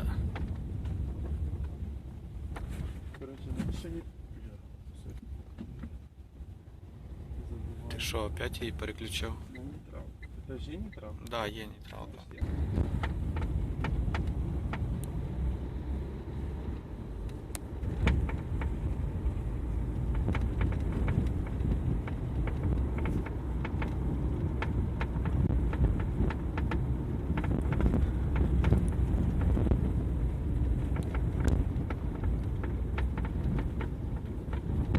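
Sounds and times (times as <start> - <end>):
road rumble in car: 0.0 - 34.9.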